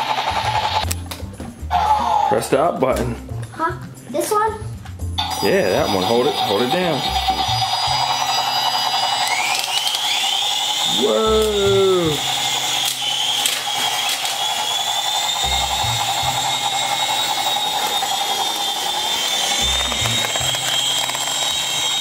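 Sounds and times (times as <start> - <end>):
toy helicopter rotors whirring: 0.0 - 2.8, 3.5 - 22.0.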